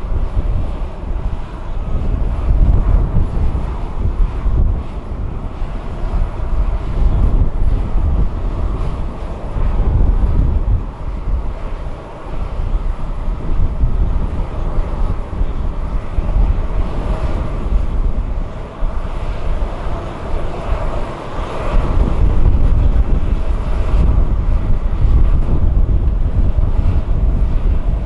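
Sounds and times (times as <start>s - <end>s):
jet engines running: 0.0s - 28.0s
wind buffeting microphone: 0.0s - 28.0s.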